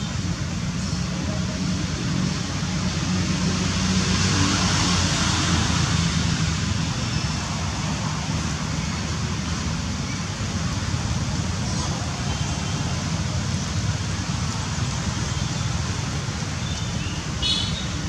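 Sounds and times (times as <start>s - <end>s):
street traffic rumble: 0.0s - 18.0s
wind: 0.0s - 18.0s.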